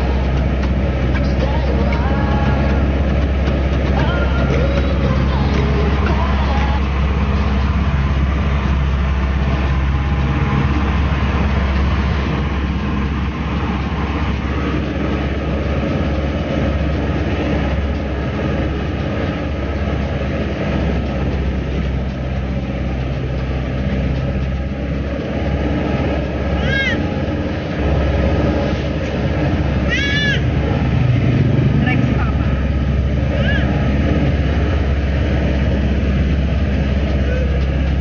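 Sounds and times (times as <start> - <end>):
road noise: 0.0 - 38.0
vehicle engine drone: 0.0 - 38.0.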